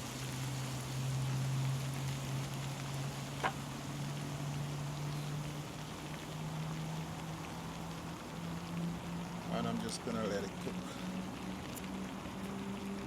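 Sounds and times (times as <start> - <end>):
fish sizzling in a frying pan: 0.0 - 13.0
low steady hum: 0.0 - 13.0.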